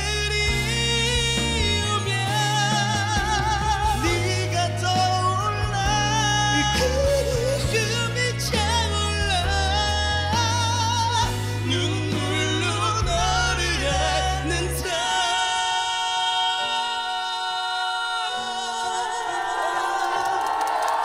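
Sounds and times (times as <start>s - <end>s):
pop ballad with wordless vocals: 0.0s - 21.0s.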